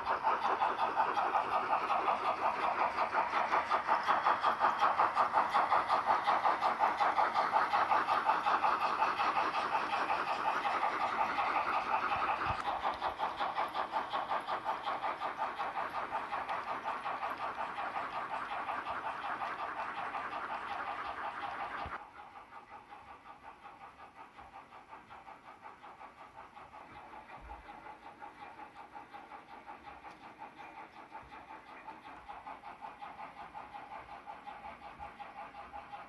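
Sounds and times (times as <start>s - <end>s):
model locomotive engine pulsing: 0.0s - 36.0s.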